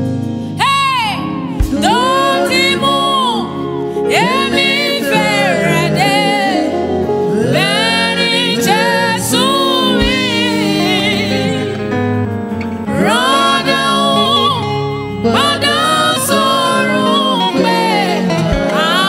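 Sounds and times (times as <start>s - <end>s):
instrumental backing: 0.0s - 19.0s
woman singing into a microphone: 0.5s - 12.0s, 12.9s - 19.0s.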